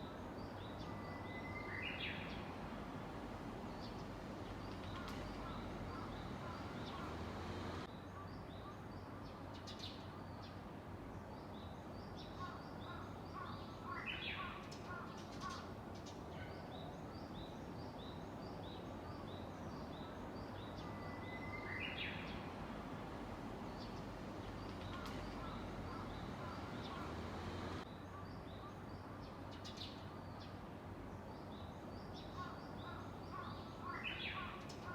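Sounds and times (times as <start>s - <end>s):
warbler singing: 0.0s - 2.6s, 3.6s - 10.6s, 11.4s - 30.6s
outdoor background noise: 0.0s - 34.9s.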